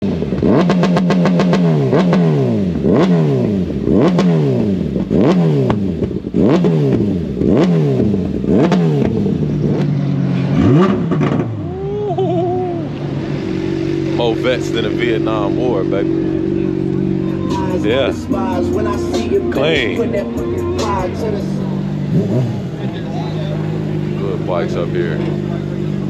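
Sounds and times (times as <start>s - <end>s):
engine revving: 0.0s - 26.0s
engine idling: 4.8s - 26.0s.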